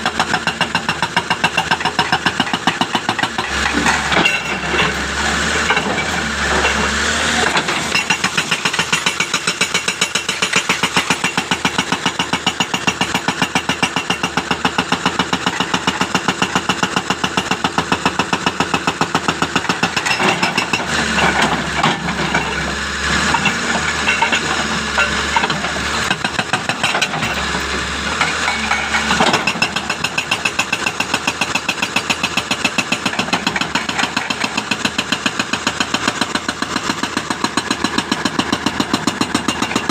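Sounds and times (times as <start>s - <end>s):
engine running: 0.0s - 16.0s, 18.1s - 39.9s
jackhammer pounding: 0.0s - 39.9s.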